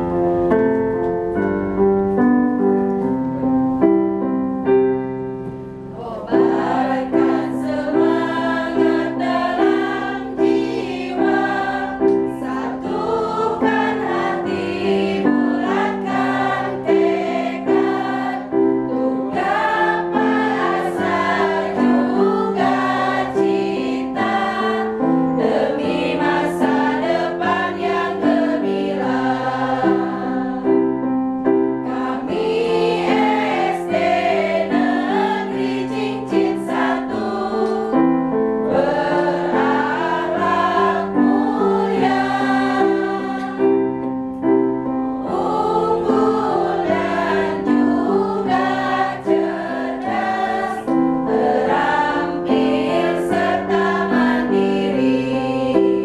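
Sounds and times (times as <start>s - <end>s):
group of voices singing a march: 6.2s - 30.8s, 31.9s - 38.0s, 38.7s - 43.8s, 45.2s - 56.0s.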